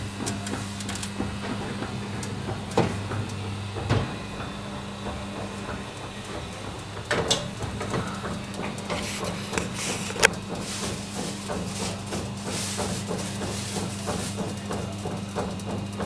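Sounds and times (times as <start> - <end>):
oven humming: 0.0 - 16.0.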